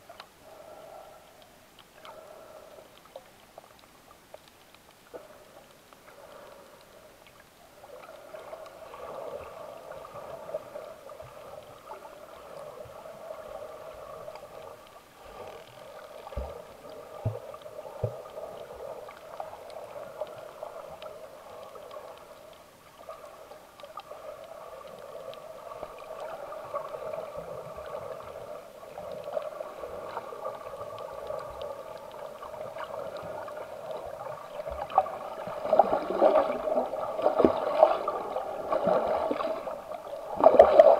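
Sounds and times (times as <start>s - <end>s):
muffled underwater hum: 0.0s - 40.4s
water gurgling: 0.0s - 40.9s.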